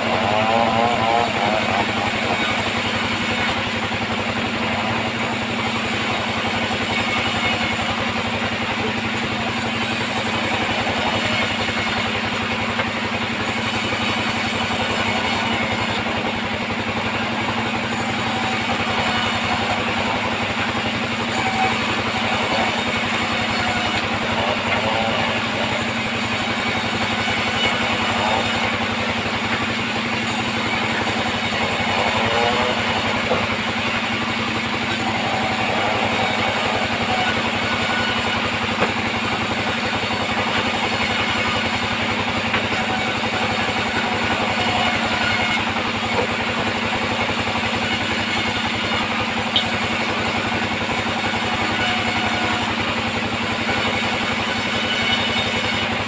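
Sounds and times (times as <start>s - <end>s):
band sawmill droning: 0.0s - 56.0s.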